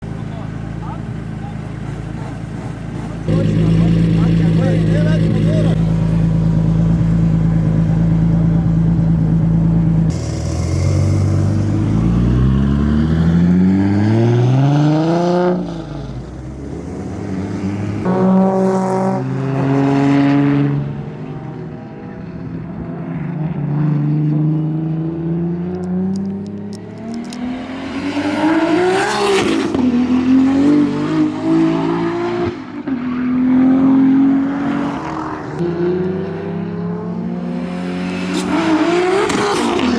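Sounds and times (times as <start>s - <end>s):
car exhaust accelerating through gears: 0.0s - 39.9s.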